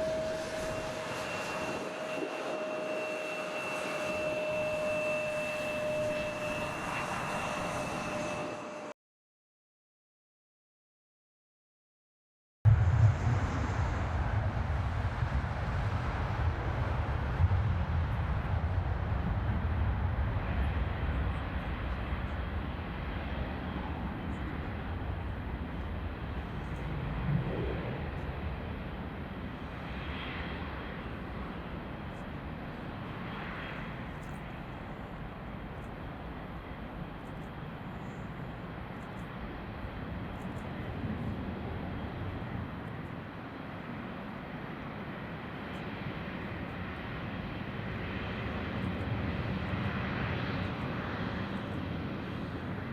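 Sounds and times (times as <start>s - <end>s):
jet airliner engines rumbling: 0.0s - 9.0s, 12.7s - 52.9s.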